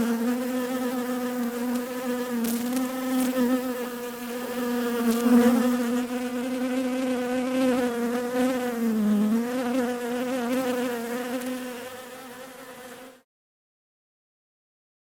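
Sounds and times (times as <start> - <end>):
bee buzzing: 0.0 - 13.3.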